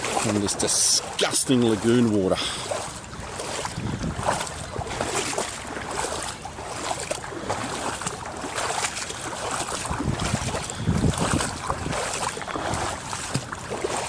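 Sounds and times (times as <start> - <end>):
footsteps wading through water: 0.0 - 14.0.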